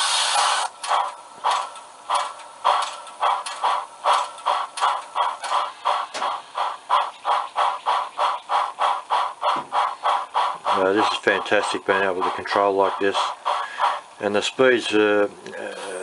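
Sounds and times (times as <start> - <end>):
steam locomotive chuffing: 0.0 - 15.2.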